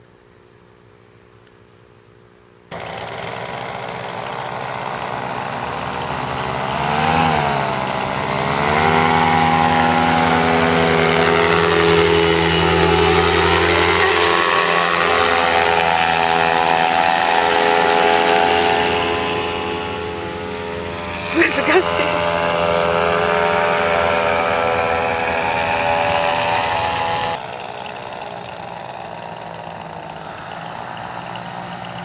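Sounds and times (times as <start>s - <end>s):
paramotor engine and propeller: 2.7s - 32.0s.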